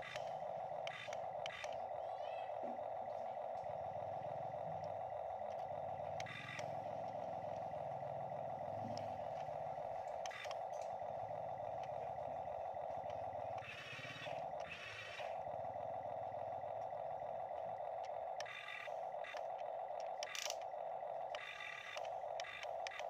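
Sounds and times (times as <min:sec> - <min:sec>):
toy excavator motors whirring: 0:00.0 - 0:23.0.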